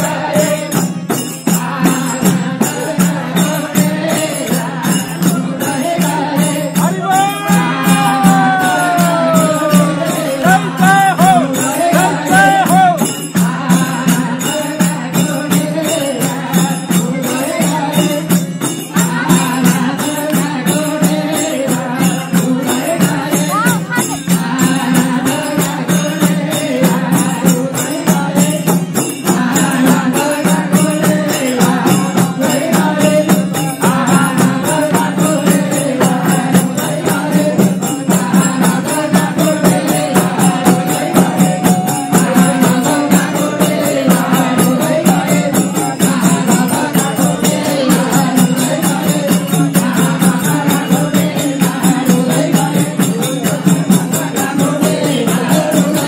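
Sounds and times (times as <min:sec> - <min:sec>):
devotional singing and chanting: 0:00.0 - 0:56.0
jingling percussion: 0:00.0 - 0:56.0.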